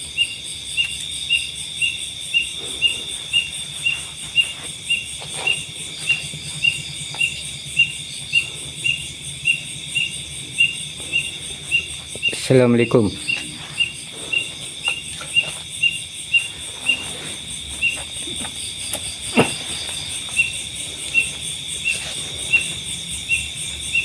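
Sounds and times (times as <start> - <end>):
high-pitched insect drone: 0.0 - 24.0
insects chirping: 0.0 - 24.0.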